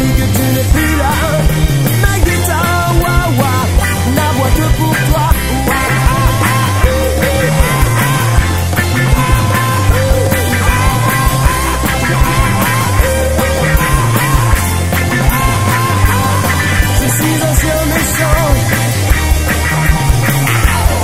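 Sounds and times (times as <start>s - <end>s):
garage rock band: 0.0s - 21.0s
heavy bass: 0.0s - 21.0s
pitch-bending lead line: 0.0s - 21.0s
steady drum beat: 0.0s - 21.0s.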